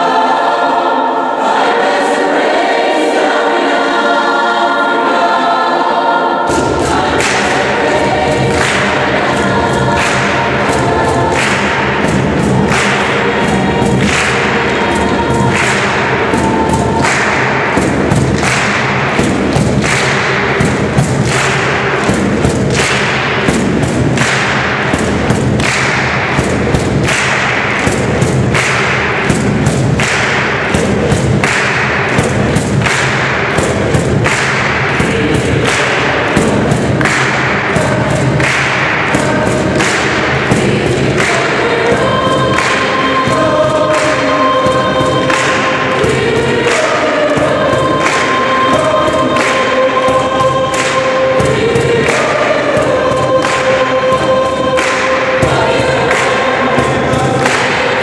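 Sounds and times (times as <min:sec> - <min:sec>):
mixed choir singing gospel: 0:00.0 - 0:58.0
cajon hits: 0:06.5 - 0:58.0
hand claps: 0:06.5 - 0:58.0.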